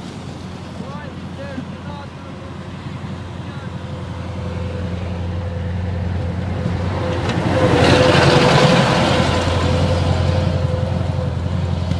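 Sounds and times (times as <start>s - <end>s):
truck engine driving past: 0.0s - 11.9s.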